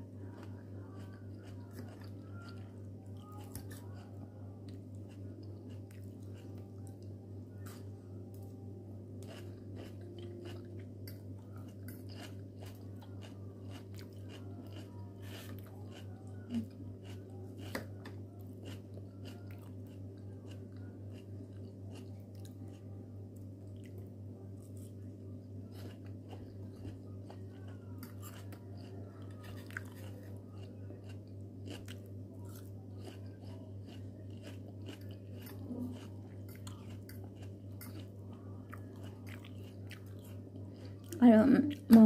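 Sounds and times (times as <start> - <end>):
low hum: 0.0 - 42.0
chewing crunchy salad: 0.2 - 42.0.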